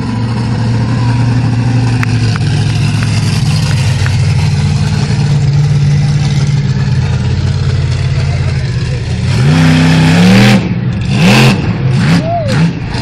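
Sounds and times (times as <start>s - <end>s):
monster truck engine driving past: 0.0s - 13.0s.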